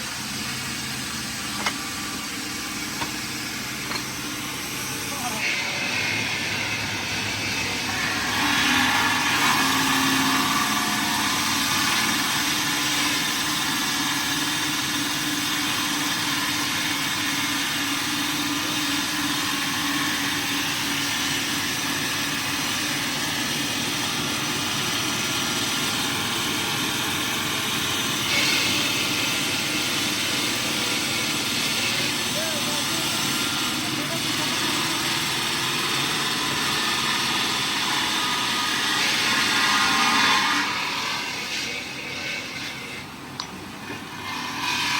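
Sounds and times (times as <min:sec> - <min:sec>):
motor running: 0:00.0 - 0:44.9.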